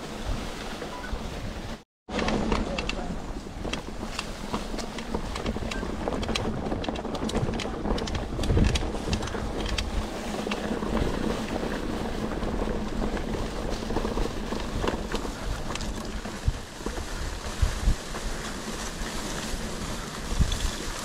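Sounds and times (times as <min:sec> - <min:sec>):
wind buffeting microphone: 0:00.0 - 0:21.0
bike clicks and rattles: 0:02.1 - 0:21.0
bike rolling over dirt trail: 0:02.1 - 0:21.0.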